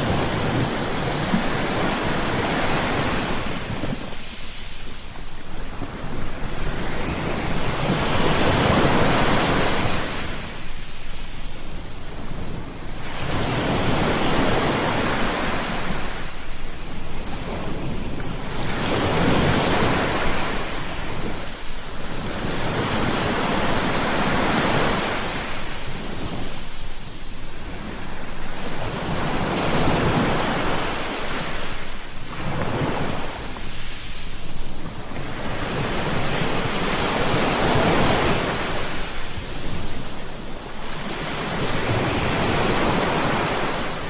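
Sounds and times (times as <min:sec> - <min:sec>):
sea waves breaking on shore: 0:00.0 - 0:44.0.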